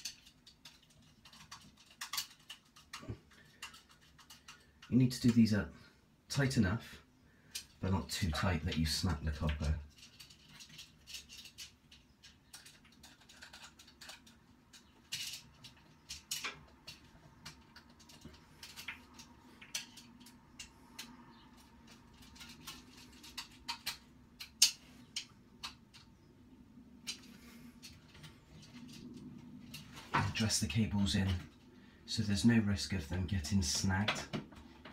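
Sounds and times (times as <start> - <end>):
wires being handled: 0.0 - 5.6, 7.4 - 34.9.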